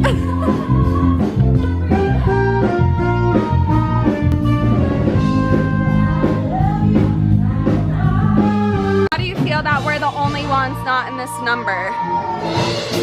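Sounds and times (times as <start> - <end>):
loud rock music with singing: 0.0 - 13.0.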